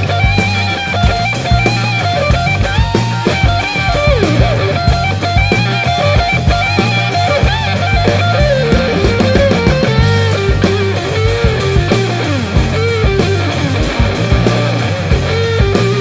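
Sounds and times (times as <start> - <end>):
bass: 0.0 - 16.0
drum kit beat: 0.0 - 16.0
electric guitar melody: 0.0 - 16.0.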